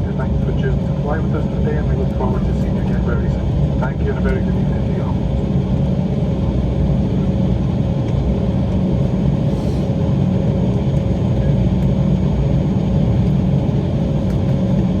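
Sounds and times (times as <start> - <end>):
aircraft cabin rumble: 0.0 - 15.0
constant hum: 0.0 - 15.0.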